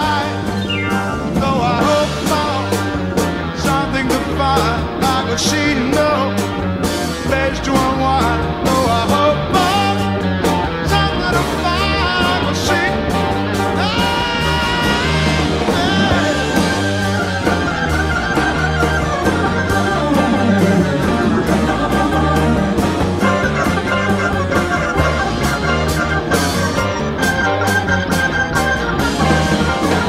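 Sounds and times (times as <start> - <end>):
gliding lead melody: 0.0 - 5.3, 8.0 - 30.0
bass guitar: 0.0 - 30.0
drums: 0.0 - 30.0
keyboards: 0.0 - 30.0.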